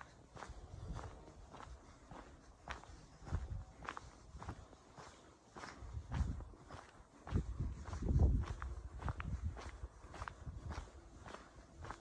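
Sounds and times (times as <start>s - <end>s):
footsteps on concrete: 0.0s - 12.0s.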